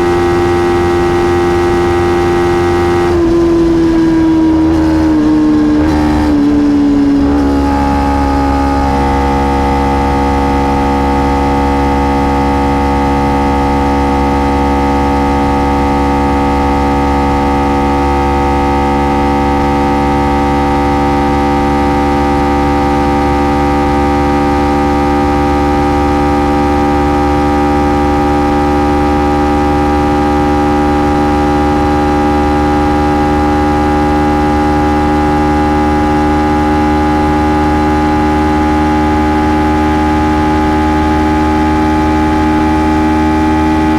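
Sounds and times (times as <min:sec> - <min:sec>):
low rush of wind: 0:00.0 - 0:43.9
motorcycle engine droning: 0:00.0 - 0:43.9.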